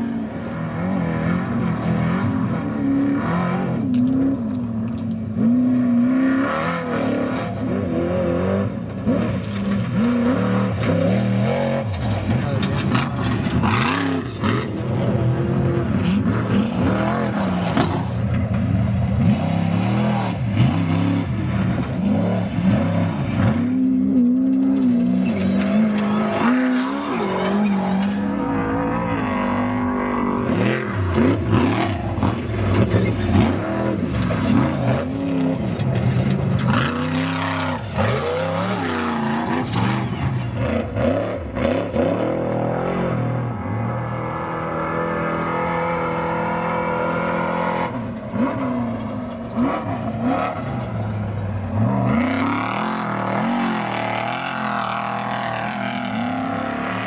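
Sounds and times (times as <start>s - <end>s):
race truck engines revving: 0.0s - 57.0s.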